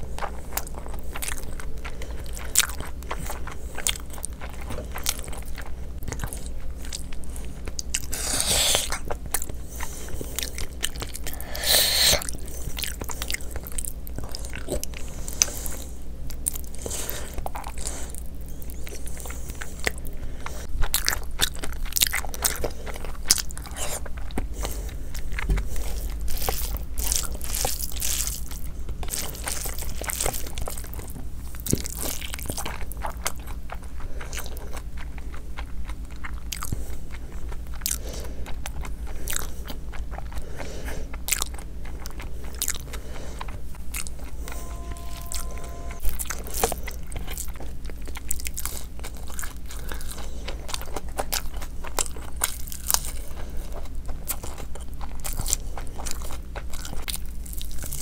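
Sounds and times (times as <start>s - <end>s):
person chewing and smacking: 0.0s - 58.0s.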